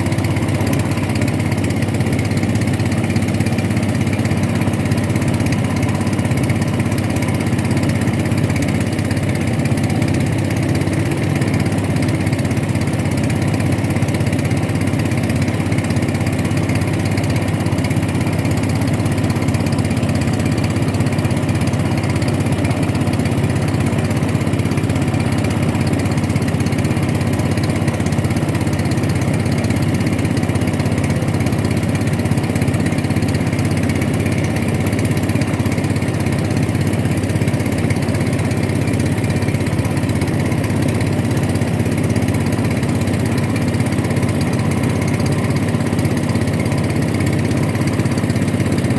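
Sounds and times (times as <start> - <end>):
boat engine humming: 0.0 - 48.9.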